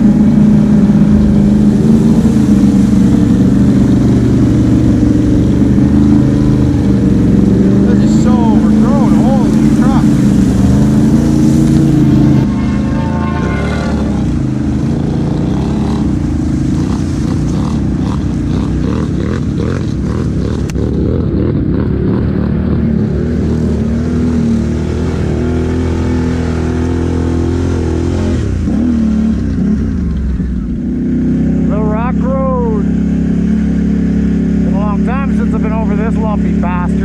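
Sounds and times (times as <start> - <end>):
quad bike engine revving: 0.0 - 37.0.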